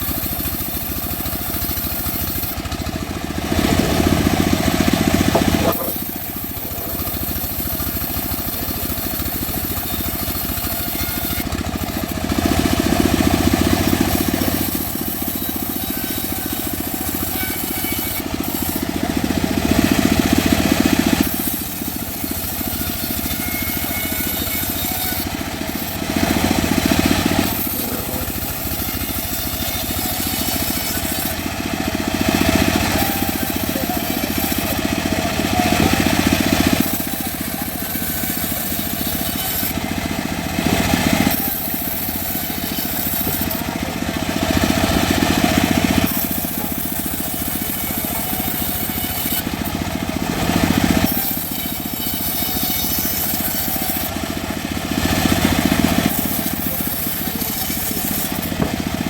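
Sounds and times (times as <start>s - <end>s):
bandsaw mill running: 0.0s - 59.0s.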